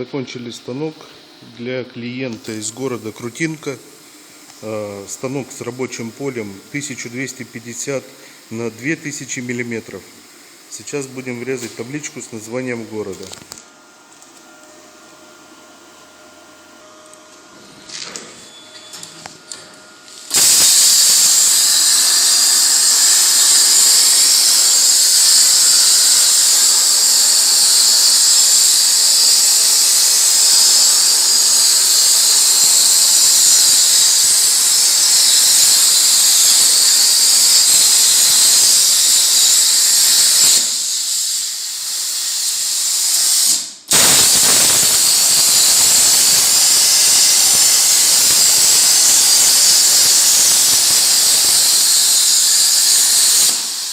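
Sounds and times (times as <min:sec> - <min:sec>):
plasma torch hissing: 0:02.3 - 0:13.6, 0:20.1 - 0:53.9.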